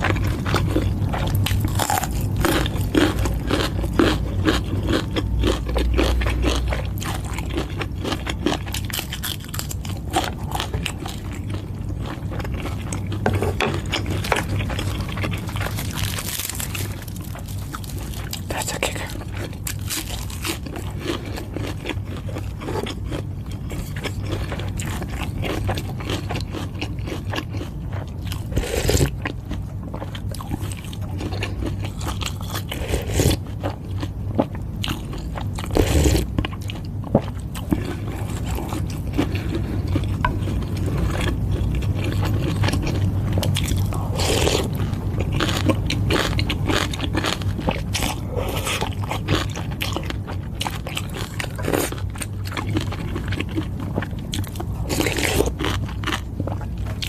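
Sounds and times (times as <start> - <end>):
person chewing: 0.0 - 57.0.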